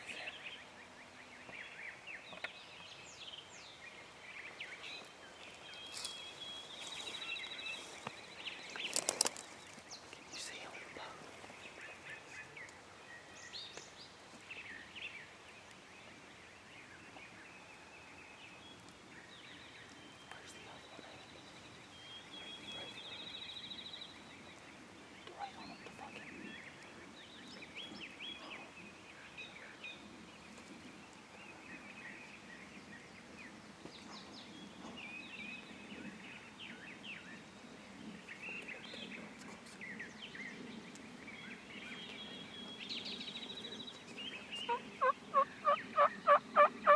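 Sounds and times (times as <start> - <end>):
outdoor background hiss: 0.0 - 46.9
small birds chirping: 0.0 - 46.9.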